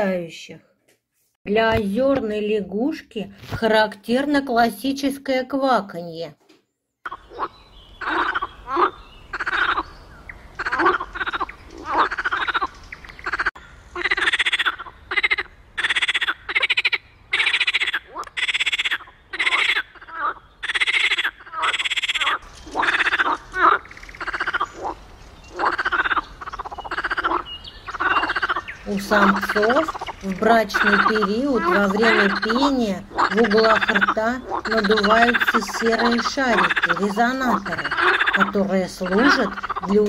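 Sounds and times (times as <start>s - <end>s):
frog croaking: 7.0s - 40.0s.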